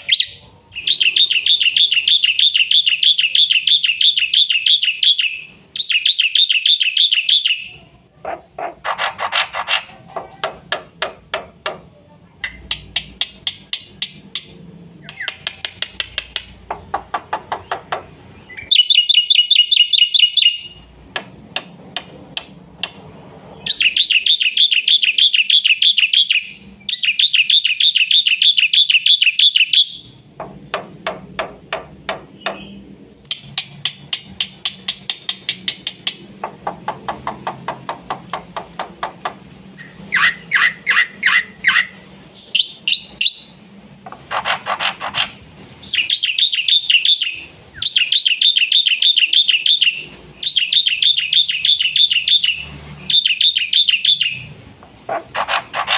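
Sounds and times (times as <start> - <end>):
starling singing: 0.0 - 21.2, 22.8 - 55.9.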